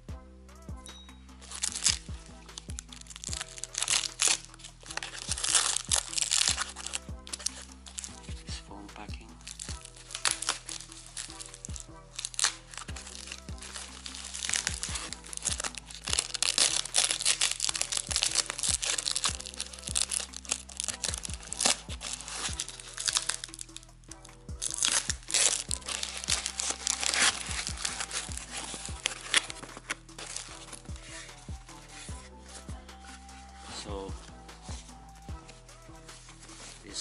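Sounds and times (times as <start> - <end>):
background music: 0.0 - 37.0
packing wrap crinkling and tearing: 1.4 - 8.6, 9.2 - 35.6.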